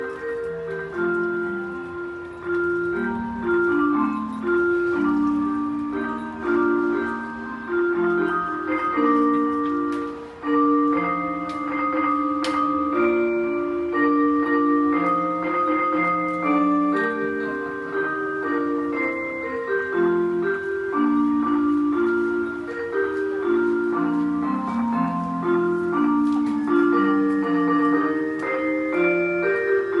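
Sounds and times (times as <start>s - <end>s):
bell-like chime melody: 0.0s - 30.0s.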